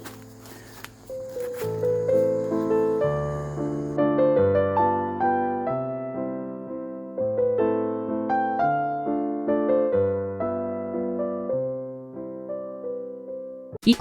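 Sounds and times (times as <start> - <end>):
gentle piano music: 0.0 - 13.8.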